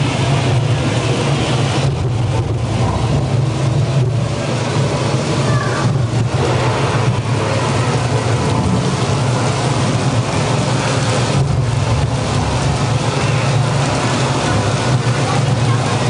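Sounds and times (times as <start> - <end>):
low rumble: 0.0 - 16.0
water spraying onto foliage: 0.0 - 16.0.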